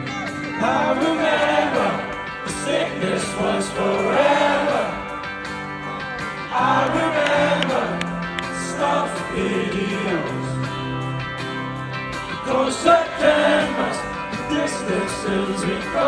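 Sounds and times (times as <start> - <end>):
male lead singer: 0.0 - 11.3, 12.1 - 16.0
bass: 0.0 - 16.0
electric guitar: 0.0 - 16.0
live rock band: 0.0 - 16.0.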